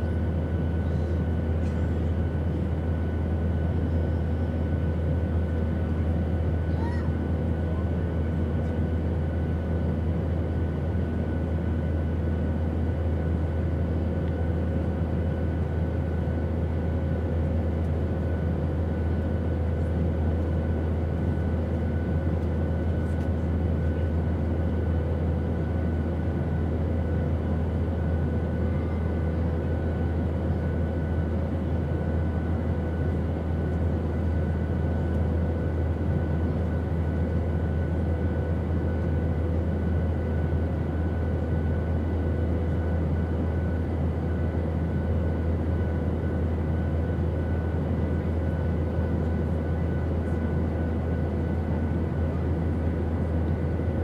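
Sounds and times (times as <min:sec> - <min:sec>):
airplane rumbling drone: 0:00.0 - 0:54.0.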